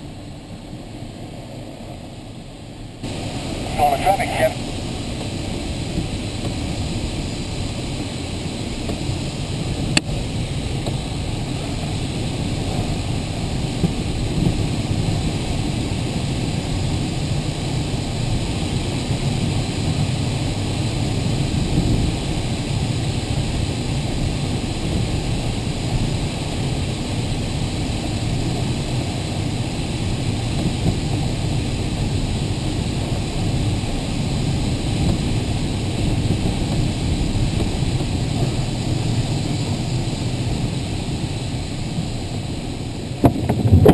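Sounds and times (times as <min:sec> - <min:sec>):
airflow rushing over glider canopy: 0:00.0 - 0:43.9.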